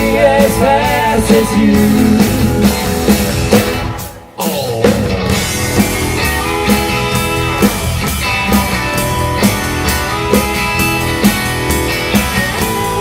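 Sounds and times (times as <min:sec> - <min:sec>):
rock band playing instrumental: 0:00.0 - 0:13.0.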